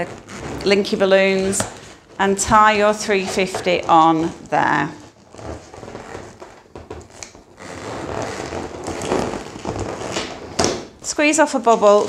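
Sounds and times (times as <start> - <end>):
balloons rubbing and stretching: 0.0 - 12.0.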